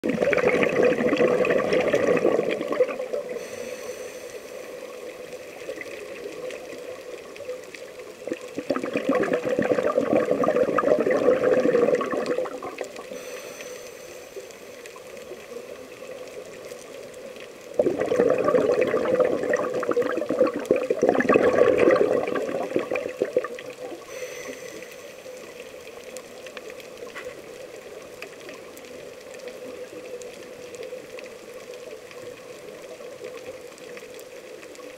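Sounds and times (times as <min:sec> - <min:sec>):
faint steady hum: 0:00.0 - 0:34.9
underwater bubbles gurgling: 0:00.0 - 0:34.9
quiet hiss: 0:00.2 - 0:34.9.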